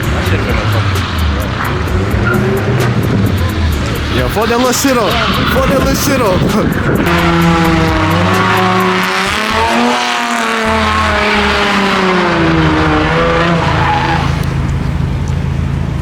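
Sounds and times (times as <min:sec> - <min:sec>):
car engine revving hard: 0:00.0 - 0:16.0
tyres squealing: 0:00.0 - 0:16.0.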